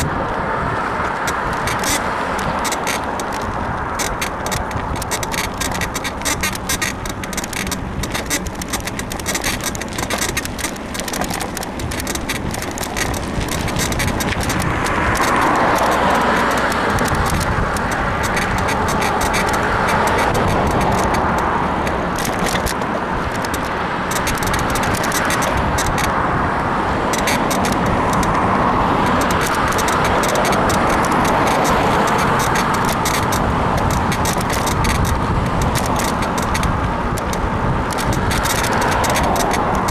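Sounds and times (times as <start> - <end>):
bicycle road noise: 0.0 - 39.9
bike frame ticking and creaking: 0.0 - 39.9
passing traffic: 0.0 - 39.9.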